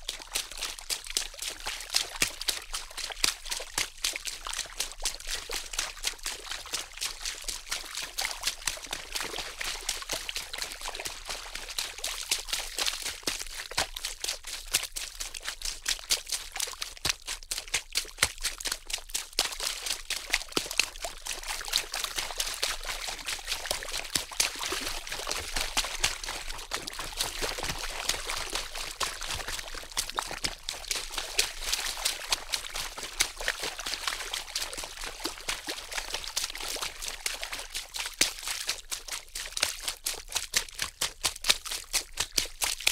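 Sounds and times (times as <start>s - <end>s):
water splashing and sloshing: 0.1s - 42.9s.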